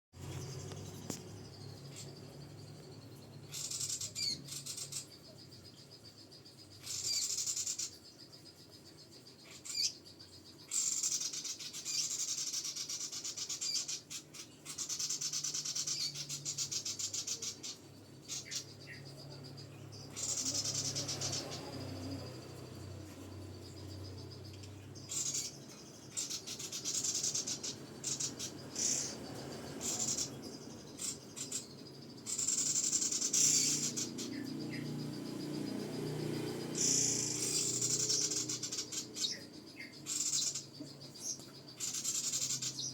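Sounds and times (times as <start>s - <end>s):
songbird trilling: 0.2s - 42.9s.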